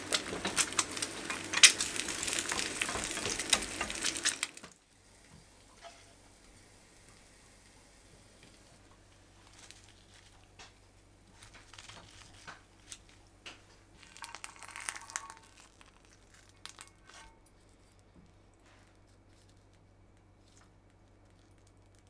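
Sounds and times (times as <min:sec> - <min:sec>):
crinkling: 0:00.0 - 0:04.8, 0:08.4 - 0:22.0.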